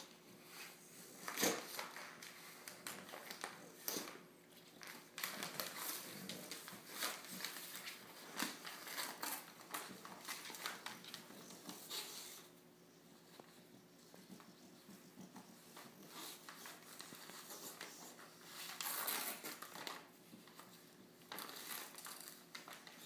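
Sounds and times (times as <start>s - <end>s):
wrapping paper crinkling: 0.6s - 12.6s, 15.6s - 23.0s.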